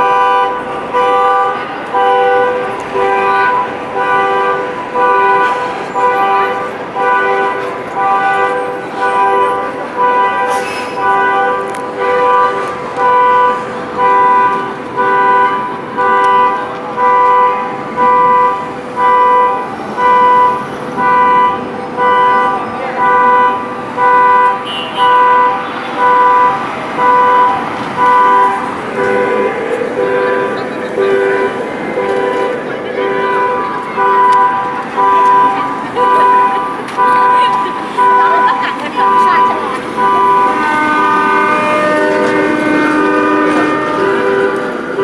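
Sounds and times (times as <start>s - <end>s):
car alarm horn honking: 0.0s - 45.0s.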